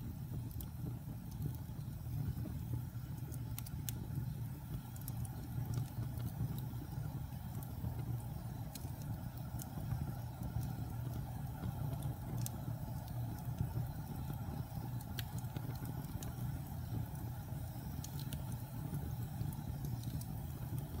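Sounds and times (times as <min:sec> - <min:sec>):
burning wood crackling and popping: 0:00.0 - 0:21.0
wood fire burning: 0:00.0 - 0:21.0.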